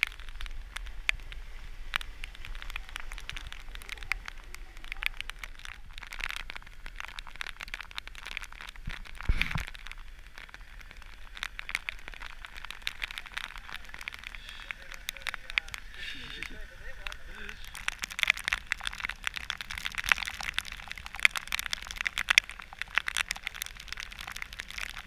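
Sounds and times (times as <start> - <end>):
raindrops ticking on microphone: 0.0 - 25.0.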